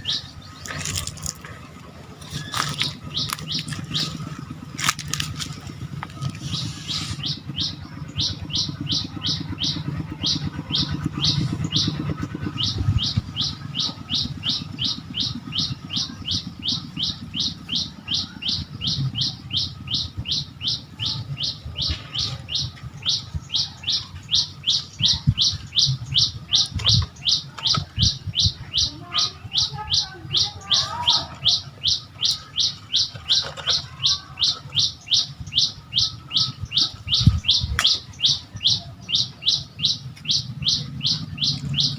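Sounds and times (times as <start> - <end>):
low rumble: 0.0 - 33.4, 34.1 - 41.9
bird chirping: 0.0 - 41.9.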